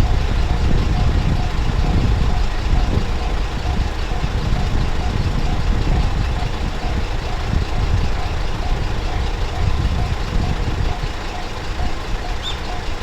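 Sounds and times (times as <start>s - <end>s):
loud low rumble: 0.0s - 11.0s
level-crossing warning bell: 0.0s - 13.0s.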